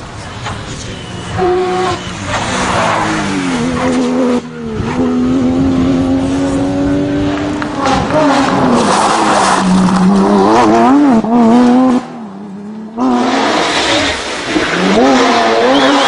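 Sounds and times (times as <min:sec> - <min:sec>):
car engine at high revs: 0:00.1 - 0:16.0.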